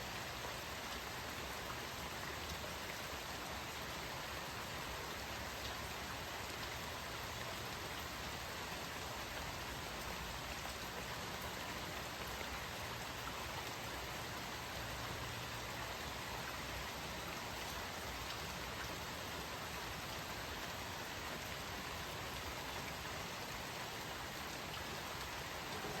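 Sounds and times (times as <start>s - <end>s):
raindrops pattering on surfaces: 0.2s - 26.0s.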